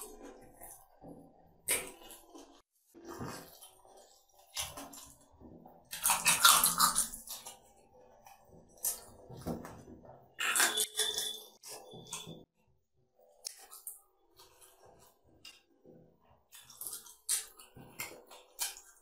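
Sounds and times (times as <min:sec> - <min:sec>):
chewing: 0:00.0 - 0:09.8, 0:13.2 - 0:19.0.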